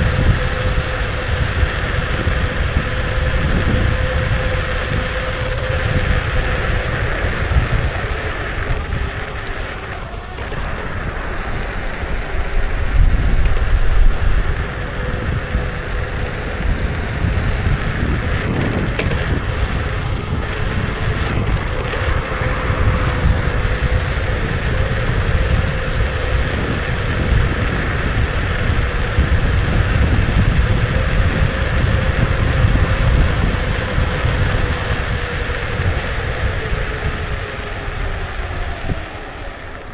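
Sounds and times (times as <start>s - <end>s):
faint electric motor whine: 0.0s - 39.9s
low road rumble: 0.0s - 39.9s
wind buffeting microphone: 0.0s - 39.9s.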